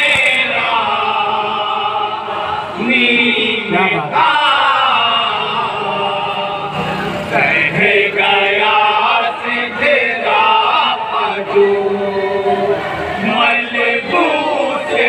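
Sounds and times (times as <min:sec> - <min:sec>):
men chanting in chorus: 0:00.0 - 0:15.0.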